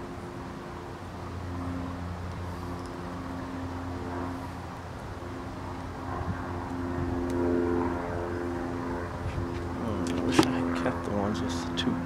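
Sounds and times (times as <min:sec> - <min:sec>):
steady motor drone: 0:00.0 - 0:12.0.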